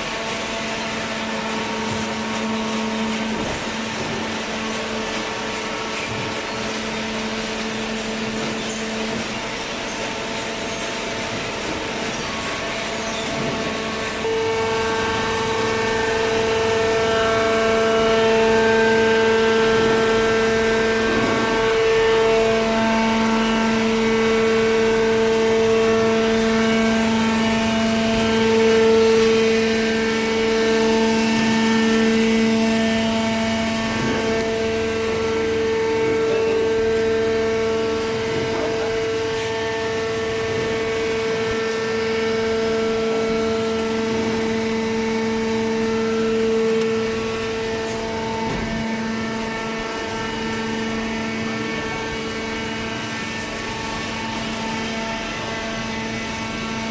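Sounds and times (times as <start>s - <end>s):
hydraulic baler humming: 0.0s - 56.9s.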